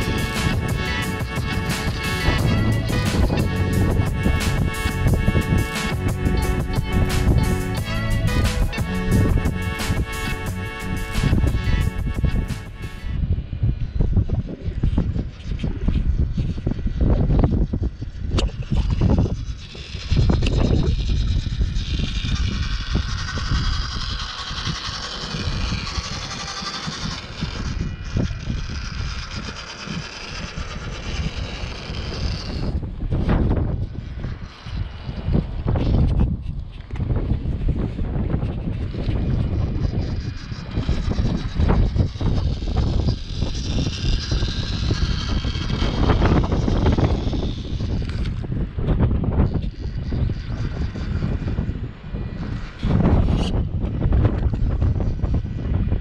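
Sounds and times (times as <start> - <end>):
small electric motor whining: 0.0 - 56.0
wind buffeting microphone: 0.0 - 56.0.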